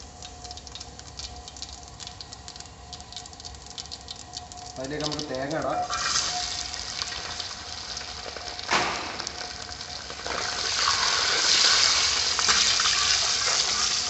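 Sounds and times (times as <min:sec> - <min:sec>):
coconut sizzling in oil: 0:00.0 - 0:14.0.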